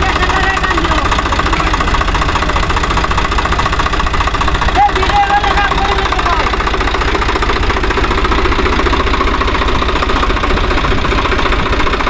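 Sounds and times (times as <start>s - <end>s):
diesel engine knocking: 0.0s - 12.0s.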